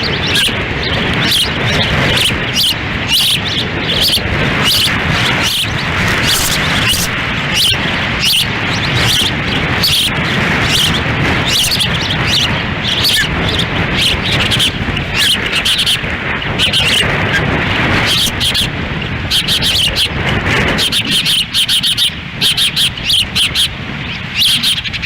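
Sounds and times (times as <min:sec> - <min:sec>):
ospreys high chirping calls: 0:00.0 - 0:25.0
wind buffeting microphone: 0:00.0 - 0:25.0.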